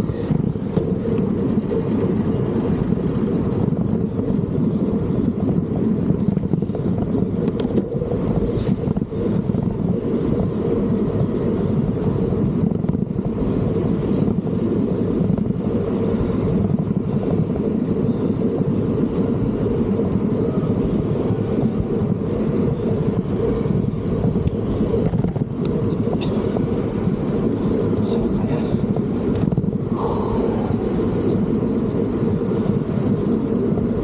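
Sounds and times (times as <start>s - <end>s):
wind and road rushing noise: 0.0s - 34.0s.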